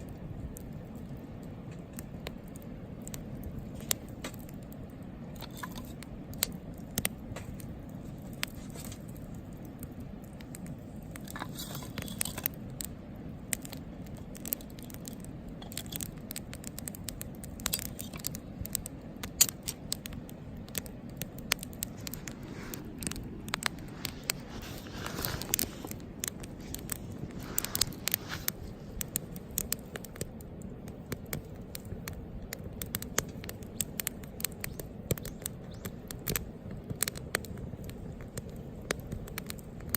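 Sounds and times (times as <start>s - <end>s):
campfire crackling and popping: 0.0s - 39.9s
fire low rumble: 0.0s - 39.9s.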